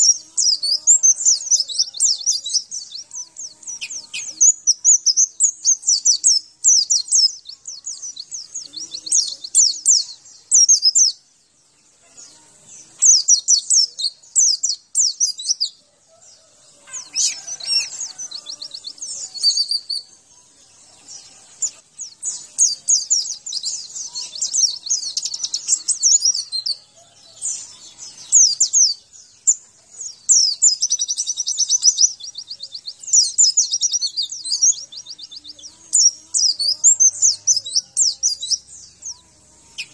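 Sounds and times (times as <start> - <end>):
bird trill: 0.0 - 11.2, 12.1 - 20.2, 21.0 - 39.9
bird chirping and twittering: 0.0 - 39.9.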